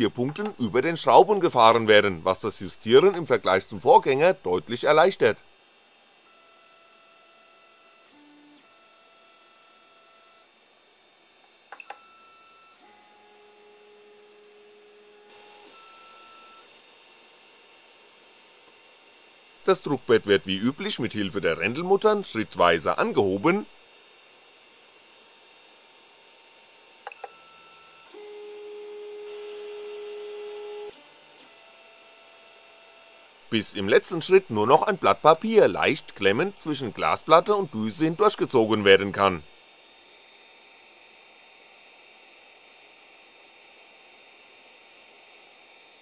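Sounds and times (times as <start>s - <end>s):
cooling fans humming: 0.0s - 6.5s, 13.3s - 46.0s.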